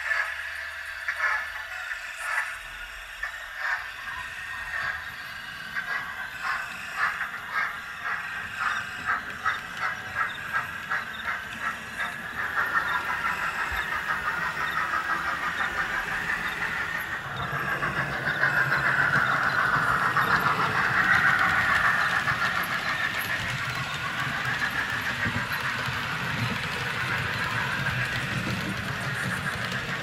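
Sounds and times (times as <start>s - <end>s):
model train rolling rumble: 0.0s - 30.0s
model train wheels clicking: 0.0s - 30.0s.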